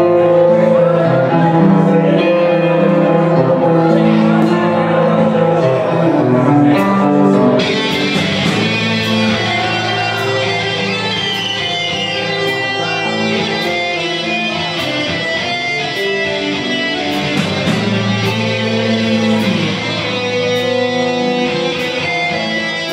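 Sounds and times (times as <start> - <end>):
bending lead guitar line: 0.0 - 22.9
rock band playing live: 0.0 - 22.9.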